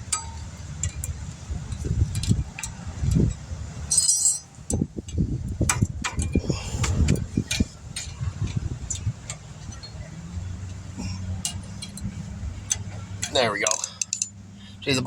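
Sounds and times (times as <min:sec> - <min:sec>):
metal clips clicking and clinking: 0:00.0 - 0:14.4
steady low rumble: 0:00.0 - 0:15.0.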